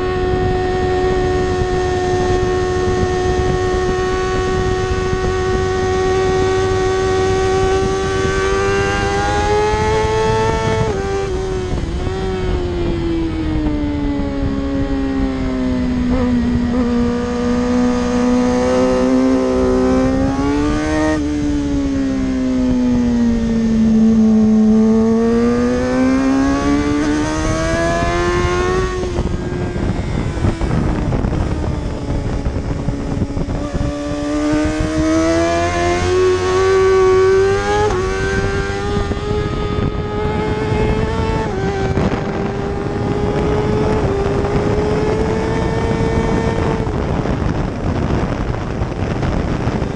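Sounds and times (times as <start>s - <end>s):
steady rushing noise: 0.0s - 49.9s
superbike engine at high revs: 0.0s - 49.9s.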